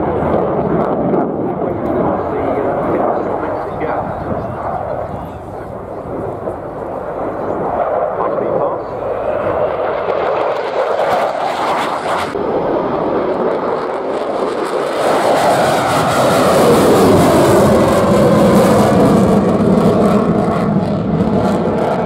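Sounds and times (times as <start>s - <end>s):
jet engine roar from low passes: 0.0s - 22.0s.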